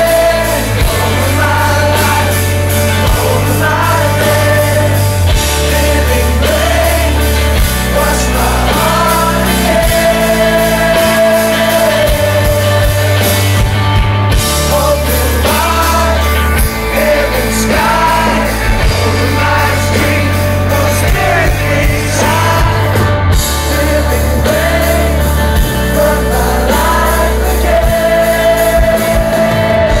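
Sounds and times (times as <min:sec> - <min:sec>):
man singing lead vocal: 0:00.0 - 0:30.0
rock band playing: 0:00.0 - 0:30.0.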